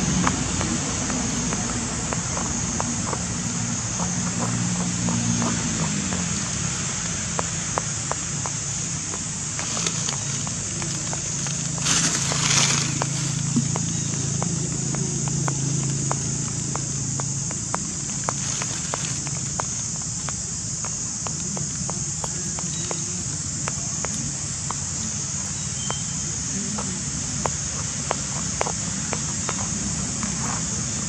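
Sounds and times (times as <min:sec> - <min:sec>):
high-pitched insect drone: 0:00.0 - 0:31.0
rustling hiss: 0:00.0 - 0:31.0
small ticks: 0:00.2 - 0:31.0.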